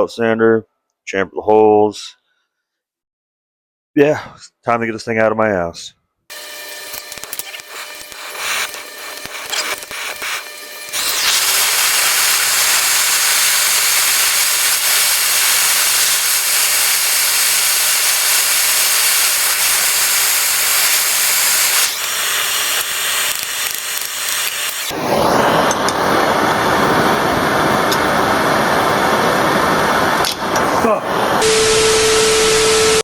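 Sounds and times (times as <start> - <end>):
loud steady hiss: 6.3 - 33.0.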